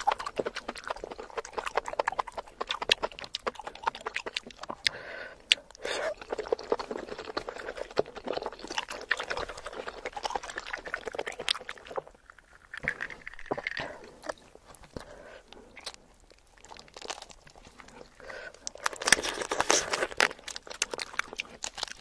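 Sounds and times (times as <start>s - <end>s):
chewing with mouth clicks and crunches: 0.0s - 22.0s.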